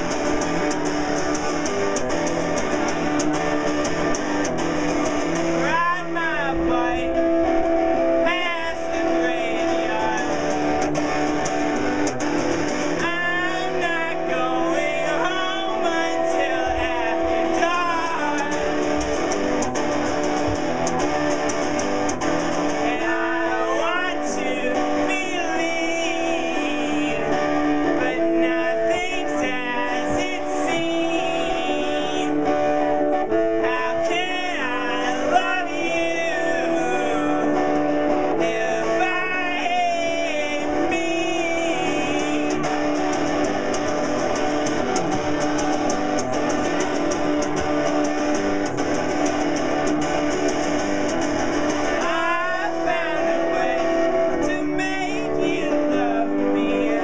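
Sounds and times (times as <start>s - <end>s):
man singing: 0.0s - 57.0s
strummed electric guitar: 0.0s - 57.0s.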